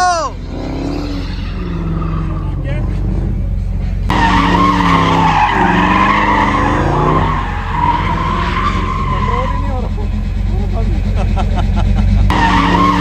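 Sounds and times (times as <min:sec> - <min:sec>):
car engine revving: 0:00.0 - 0:13.0
tyres screeching: 0:00.0 - 0:13.0.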